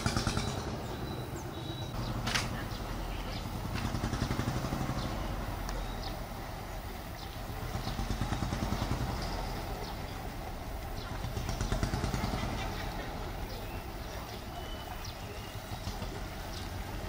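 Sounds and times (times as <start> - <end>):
ferry engine running: 0.0 - 17.0.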